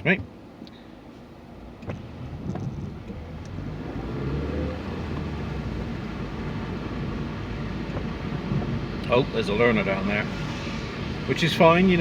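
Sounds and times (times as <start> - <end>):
car engine from inside cabin: 0.0 - 12.0
road noise: 0.0 - 12.0.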